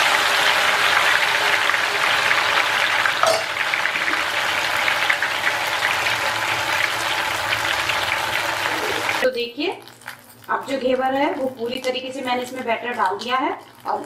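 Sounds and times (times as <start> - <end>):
hot oil sizzling and crackling: 0.0 - 14.0.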